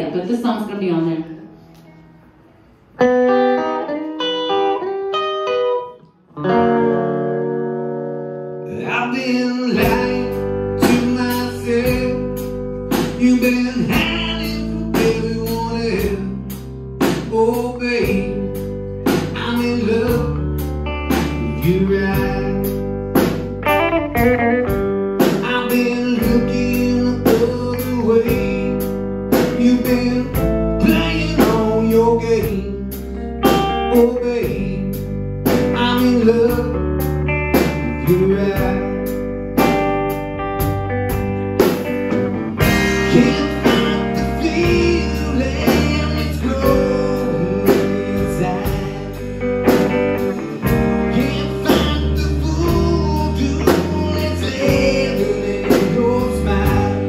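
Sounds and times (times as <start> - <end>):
electric guitar: 1.0 - 57.0
bass guitar: 1.5 - 57.0
drums: 8.7 - 57.0.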